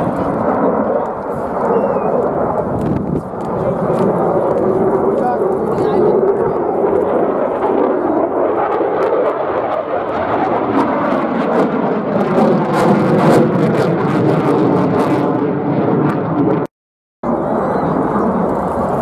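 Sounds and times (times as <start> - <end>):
aircraft engine rushing: 0.0 - 19.0.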